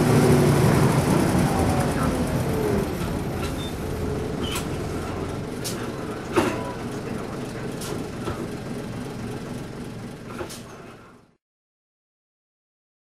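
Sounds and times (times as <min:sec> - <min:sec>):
diesel bus engine idling: 0:00.0 - 0:11.4.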